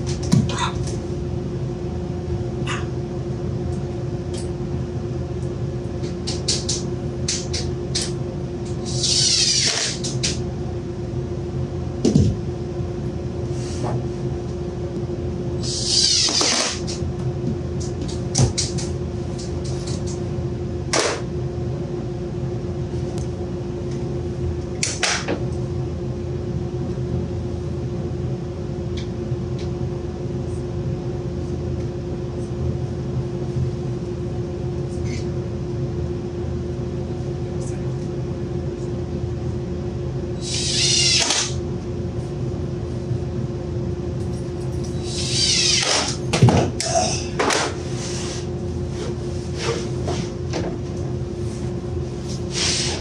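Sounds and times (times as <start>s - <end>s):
shop hum: 0.0s - 53.0s.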